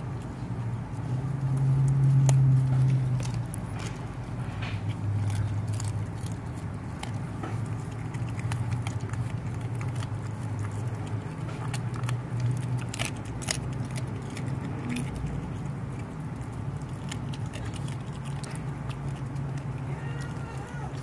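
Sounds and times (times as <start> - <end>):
dog crunching on fish: 0.0 - 21.0
low engine drone: 0.0 - 21.0.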